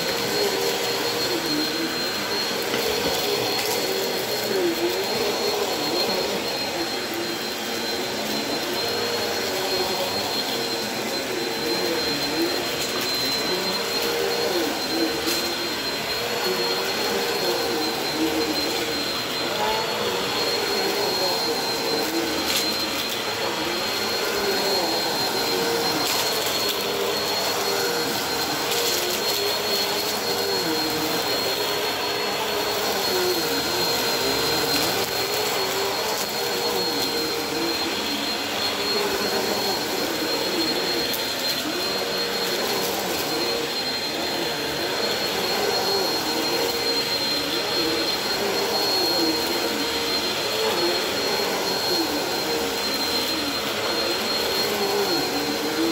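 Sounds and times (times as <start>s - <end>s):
vacuum cleaner motor whine: 0.0s - 55.9s.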